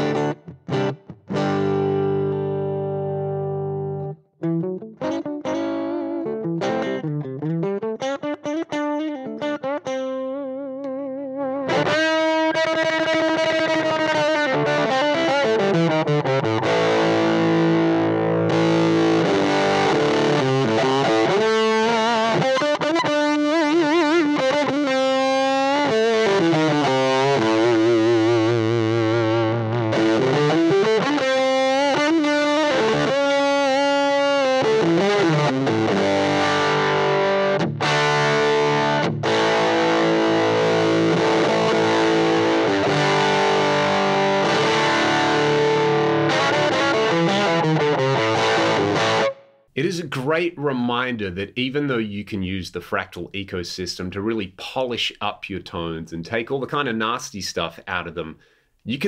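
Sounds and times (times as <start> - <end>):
distorted electric guitar: 0.0 - 52.0.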